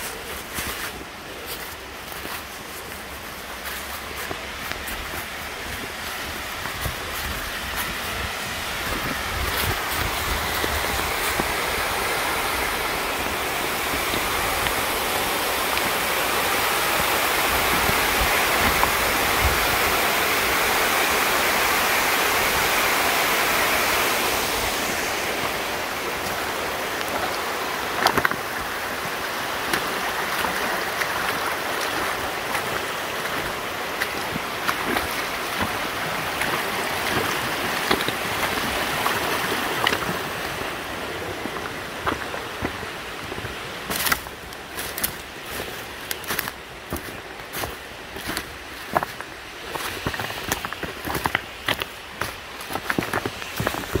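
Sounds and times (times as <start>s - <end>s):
footsteps on dry leaves and stones: 0.0s - 20.8s, 22.7s - 54.0s
rocky creek flowing: 0.0s - 54.0s
small waterfall rushing: 0.0s - 54.0s.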